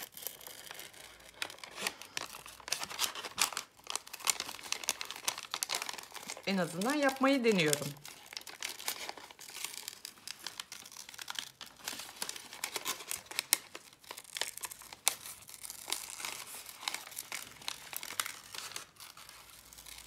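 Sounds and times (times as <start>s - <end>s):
paper crinkling and rustling: 0.0s - 20.0s.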